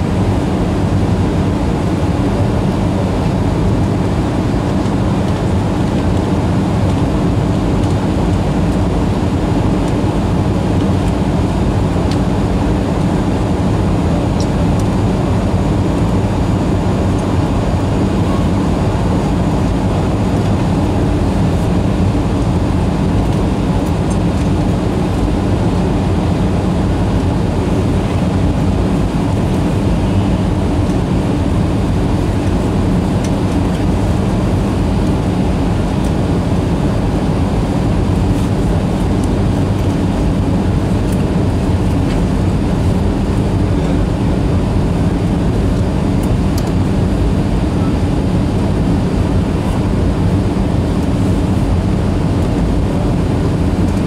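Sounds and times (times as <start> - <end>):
jet engines humming: 0.0 - 54.0.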